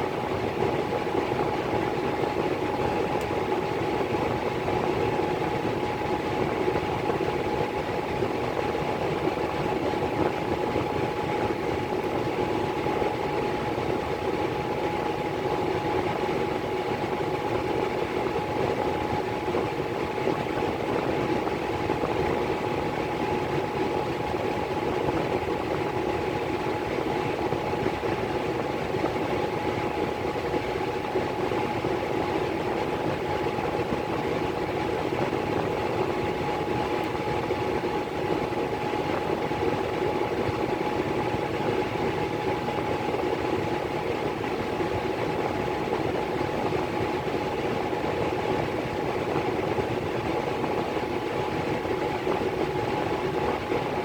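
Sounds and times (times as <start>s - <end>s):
furnace blower rushing hum: 0.0s - 54.0s.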